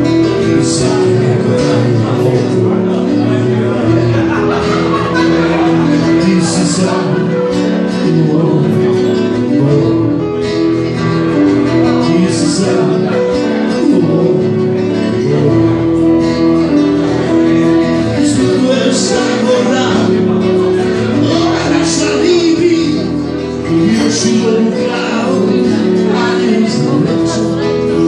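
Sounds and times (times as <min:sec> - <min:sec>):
acoustic guitar: 0:00.0 - 0:28.0
electric keyboard: 0:00.0 - 0:28.0.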